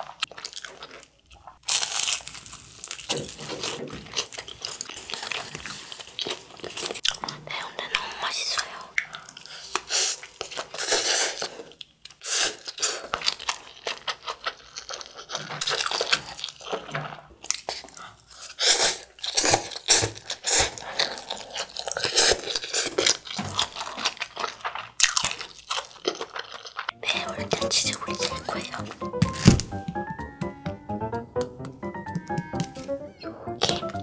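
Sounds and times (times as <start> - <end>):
slurping and chewing noodles: 0.0 - 28.8.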